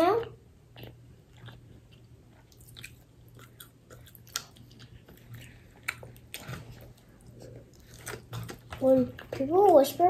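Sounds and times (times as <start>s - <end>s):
faint low hum: 0.0s - 10.0s
faint chewing with crackles: 0.1s - 10.0s.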